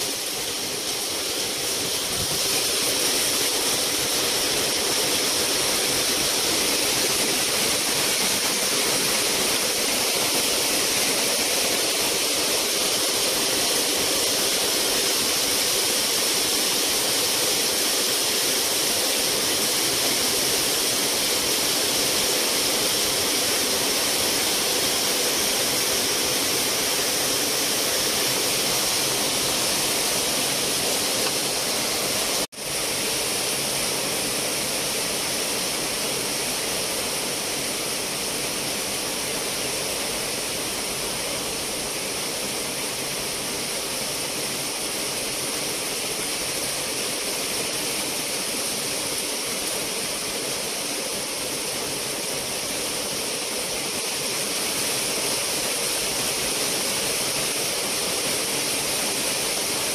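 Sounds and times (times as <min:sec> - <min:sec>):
steady rushing hiss: 0:00.0 - 0:59.9.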